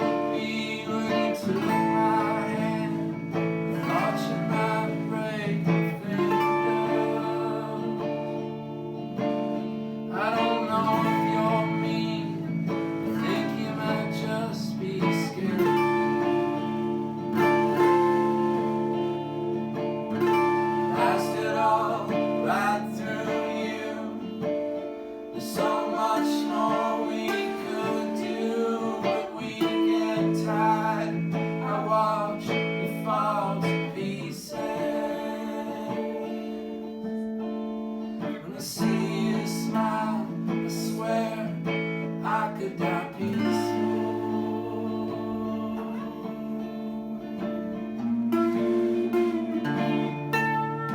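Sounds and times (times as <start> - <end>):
acoustic guitar strummed and plucked: 0.0 - 50.9
person singing: 0.0 - 50.9.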